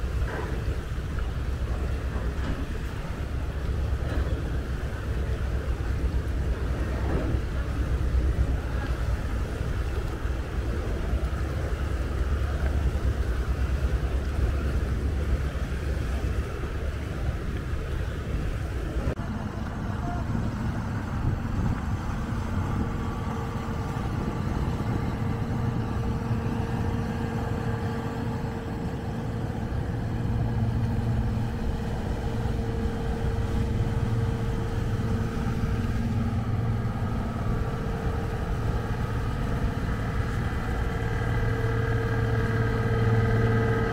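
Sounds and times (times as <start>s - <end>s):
boat engine drone: 0.0s - 43.9s
low wind rumble on microphone: 0.0s - 43.9s.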